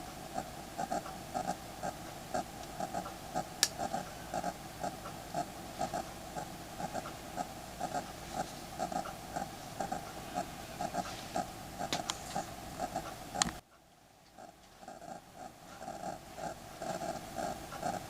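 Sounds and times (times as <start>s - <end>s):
faint irregular pulsing: 0.0s - 18.0s.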